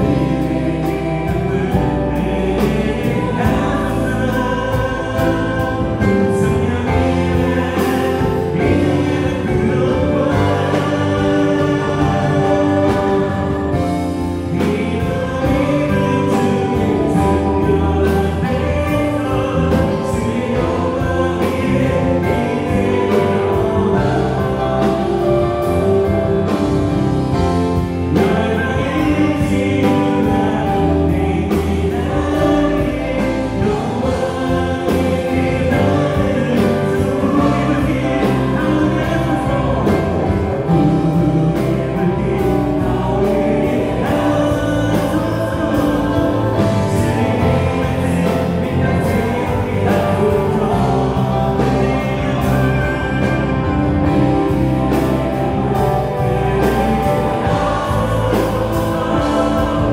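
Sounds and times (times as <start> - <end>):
group of voices singing: 0.0 - 59.9
worship band playing: 0.0 - 59.9.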